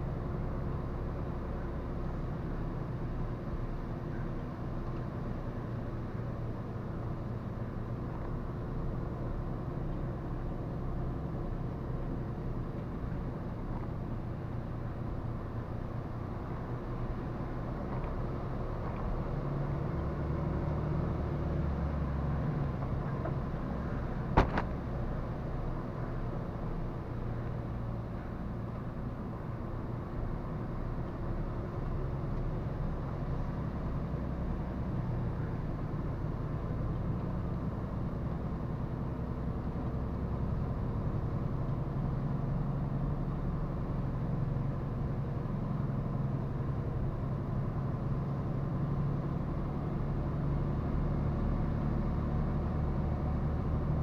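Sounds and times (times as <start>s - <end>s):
truck diesel engine driving: 0.0s - 54.0s.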